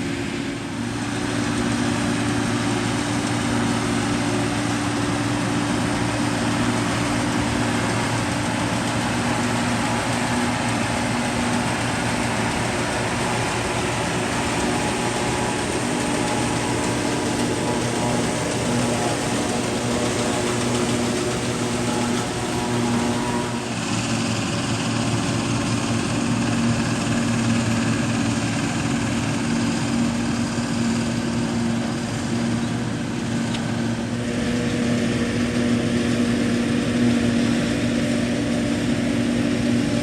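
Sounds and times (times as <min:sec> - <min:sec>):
forage harvester chopping hay: 0:00.0 - 0:40.0
tractor engine: 0:00.0 - 0:40.0.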